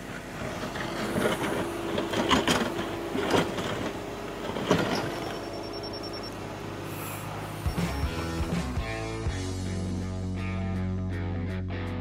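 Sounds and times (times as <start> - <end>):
excavator engine running: 0.0 - 10.5.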